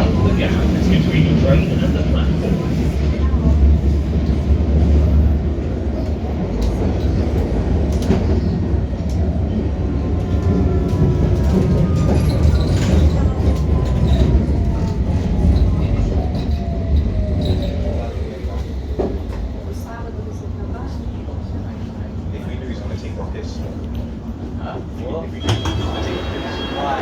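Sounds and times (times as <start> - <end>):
underground train rumbling: 0.0 - 27.0.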